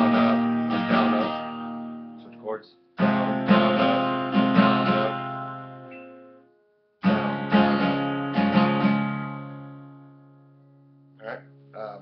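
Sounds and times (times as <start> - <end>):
acoustic guitar strumming: 0.0 - 11.8.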